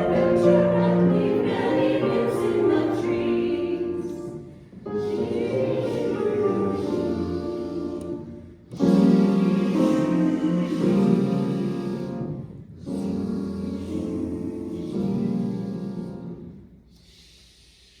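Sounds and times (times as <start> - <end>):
piano accompaniment: 0.0 - 16.6
choir singing sustained chords: 0.0 - 16.8.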